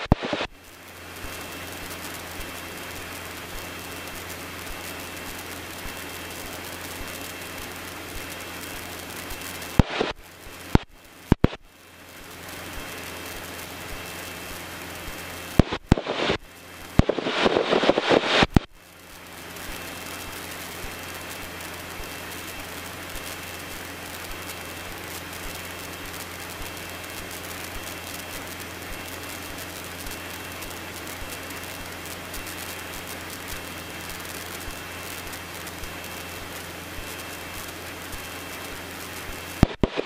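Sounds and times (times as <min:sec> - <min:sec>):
faint hum: 0:00.0 - 0:40.0
light aircraft engine drone: 0:00.0 - 0:40.0
sharp clicks and crackling: 0:00.0 - 0:40.0.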